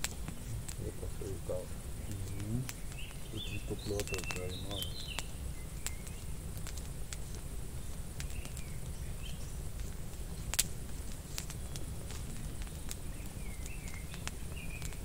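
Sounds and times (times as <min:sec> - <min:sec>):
bird chirping faintly: 0:00.0 - 0:15.0
wood fire crackling and popping: 0:00.0 - 0:15.0.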